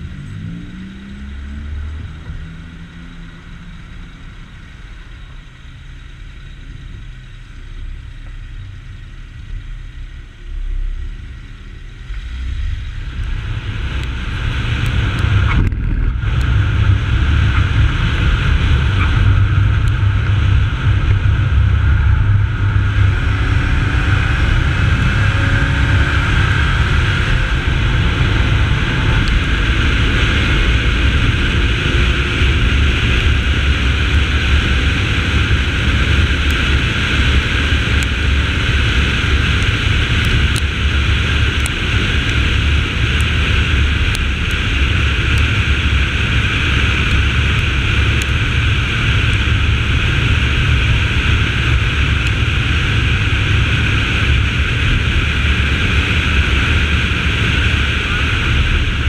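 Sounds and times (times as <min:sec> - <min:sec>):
car engine drone: 0:00.0 - 0:59.0
wind and tyre noise: 0:00.0 - 0:59.0.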